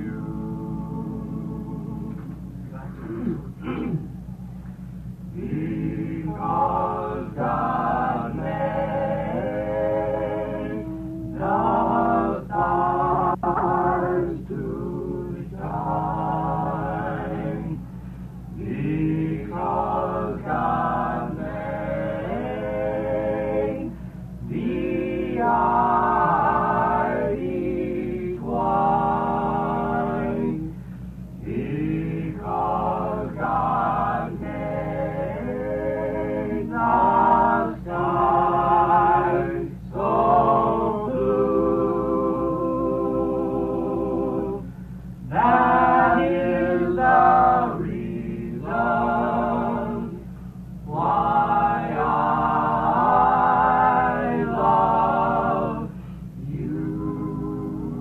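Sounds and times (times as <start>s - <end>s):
vocal group singing in harmony: 0.0s - 58.0s.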